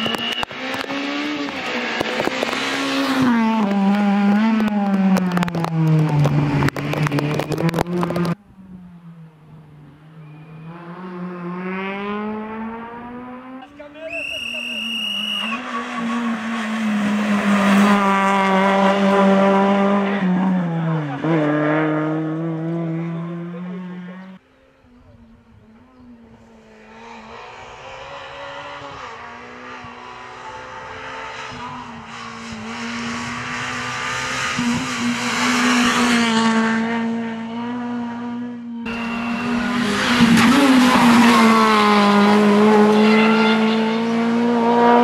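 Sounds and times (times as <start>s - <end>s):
rally car engine passing: 0.0s - 45.0s.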